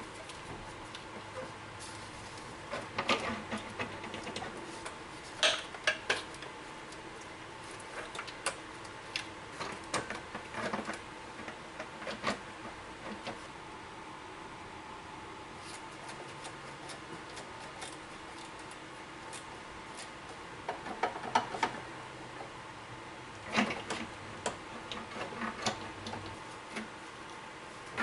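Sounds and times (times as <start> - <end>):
faint background hum: 0.0 - 28.0.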